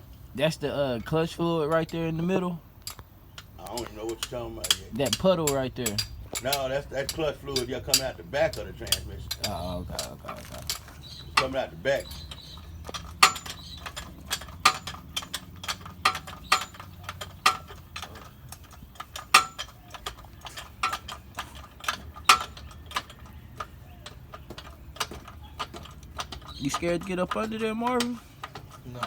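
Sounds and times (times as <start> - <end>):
metal hand tools clicking: 2.8 - 29.0.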